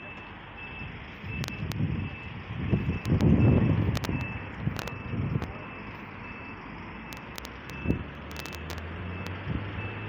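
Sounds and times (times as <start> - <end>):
vehicle engine hum: 0.0 - 10.0.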